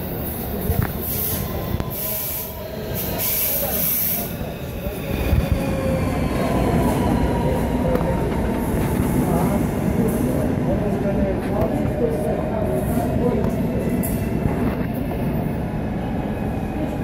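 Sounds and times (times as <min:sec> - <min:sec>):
train drive and brakes whining: 0:00.0 - 0:17.0
train wheels rumbling on rails: 0:00.0 - 0:17.0.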